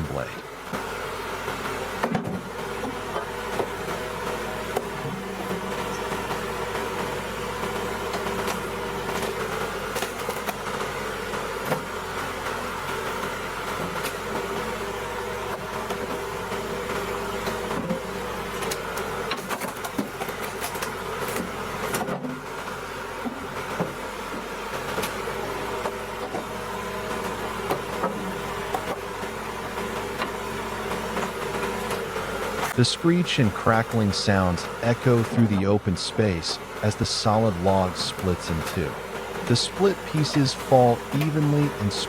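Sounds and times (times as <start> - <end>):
hydraulic wood splitter running: 0.0 - 42.0.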